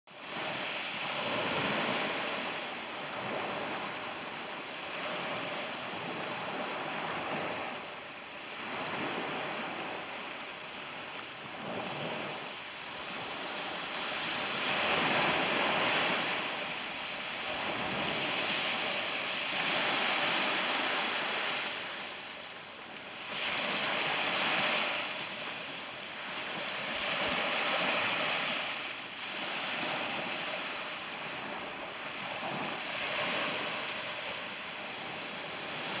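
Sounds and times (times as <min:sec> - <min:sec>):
waves breaking on beach: 0:00.1 - 0:36.0.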